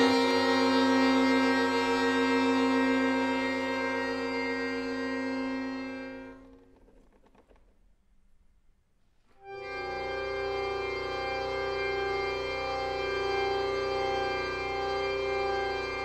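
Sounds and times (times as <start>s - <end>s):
accordion sustained chord: 0.0s - 6.9s, 9.4s - 16.0s.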